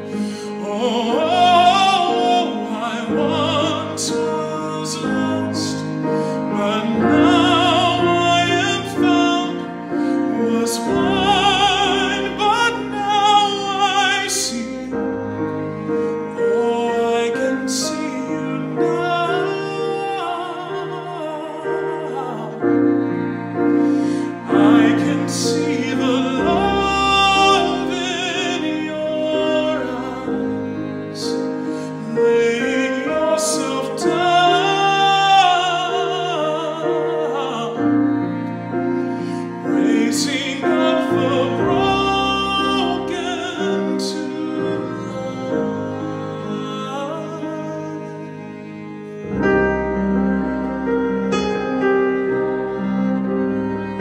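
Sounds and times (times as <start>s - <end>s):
man singing with vibrato: 0.0s - 14.9s, 16.3s - 23.3s, 24.0s - 38.4s, 39.3s - 48.9s
bowed cello: 0.0s - 54.0s
digital piano: 0.0s - 54.0s.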